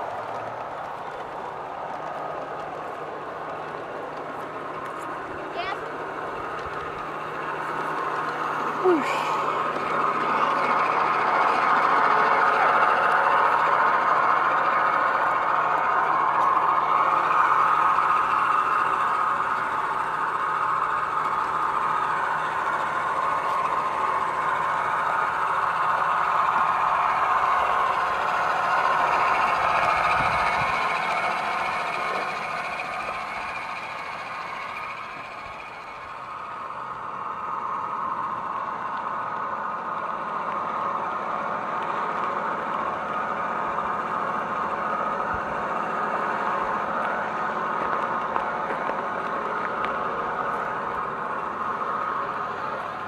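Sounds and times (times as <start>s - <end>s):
model locomotive running hum: 0.0s - 53.0s.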